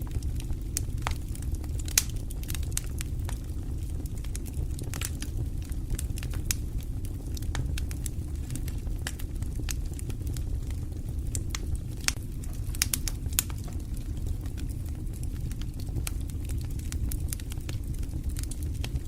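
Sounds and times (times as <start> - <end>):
fire crackles and pops: 0.0 - 19.0
flames rumbling: 0.0 - 19.0.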